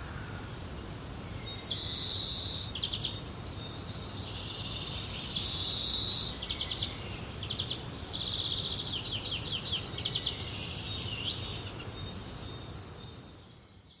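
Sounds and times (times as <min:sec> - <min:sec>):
songbirds trilling and chirping: 0:00.0 - 0:14.0.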